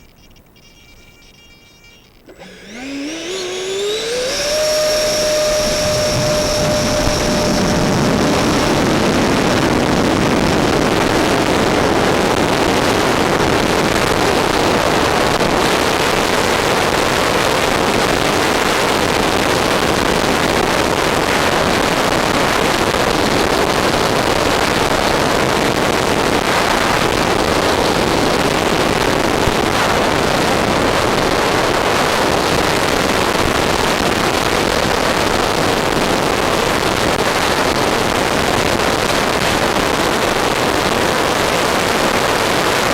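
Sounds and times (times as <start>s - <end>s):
model jet motor and airflow rush: 2.2s - 42.9s.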